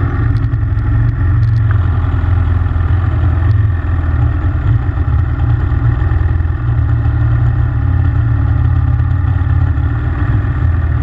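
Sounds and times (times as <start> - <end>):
pit bike engine running: 0.0 - 11.0.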